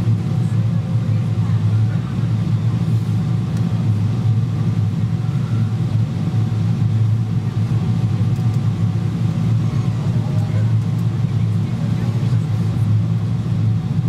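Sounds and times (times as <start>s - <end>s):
airliner cabin engine rumble: 0.0s - 14.0s.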